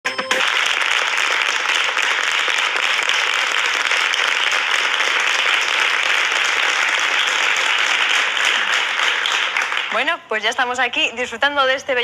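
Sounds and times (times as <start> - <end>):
audience applauding: 0.1 - 10.0.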